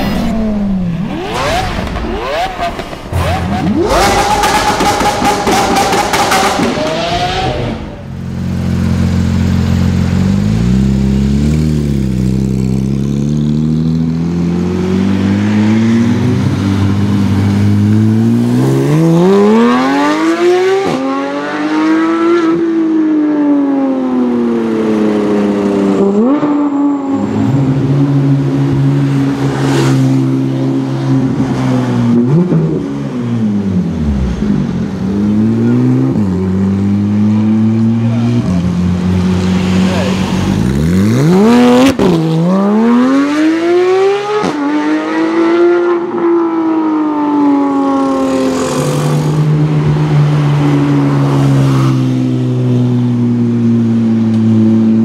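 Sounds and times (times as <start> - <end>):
sports car engine revving: 0.0 - 52.6.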